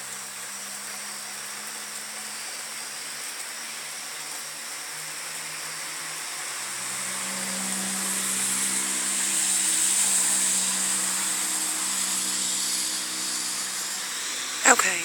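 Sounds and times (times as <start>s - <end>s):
steady rain: 0.0s - 15.0s
tyre hiss on wet road: 0.0s - 15.0s.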